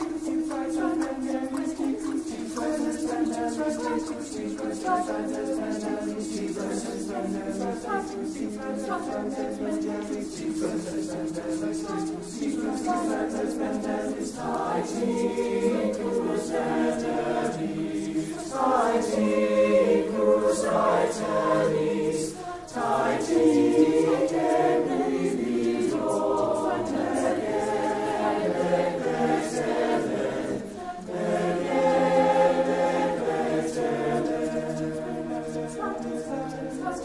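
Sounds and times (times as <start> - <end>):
a cappella choir singing: 0.0 - 37.0.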